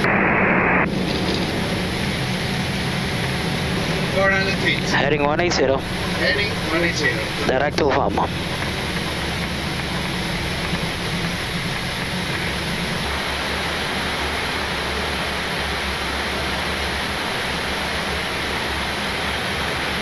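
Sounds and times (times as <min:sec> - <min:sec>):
jet cabin engine rush: 0:00.0 - 0:20.0.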